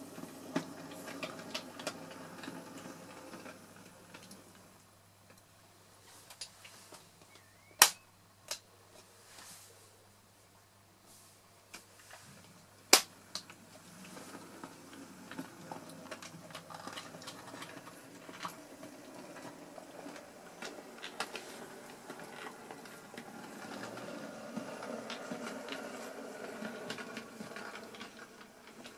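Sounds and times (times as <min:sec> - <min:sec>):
model train wheels and motor rumbling: 0:00.0 - 0:07.9, 0:11.7 - 0:28.9.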